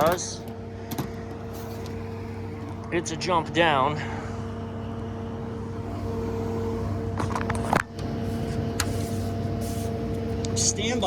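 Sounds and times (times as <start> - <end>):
hvac motor hum: 0.0 - 11.0.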